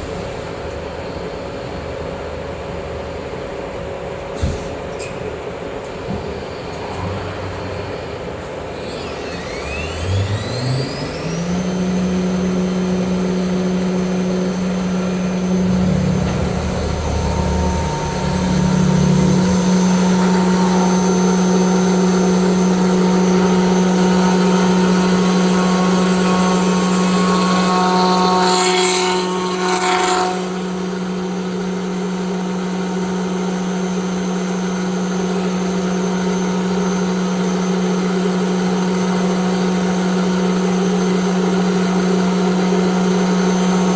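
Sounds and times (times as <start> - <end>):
router spindle whine: 6.5 - 43.9.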